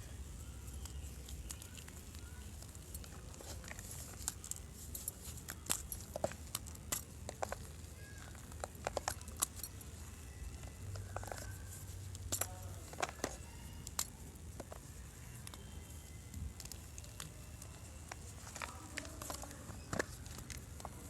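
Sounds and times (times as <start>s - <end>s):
chalk crunching and crackling: 0.1s - 21.0s.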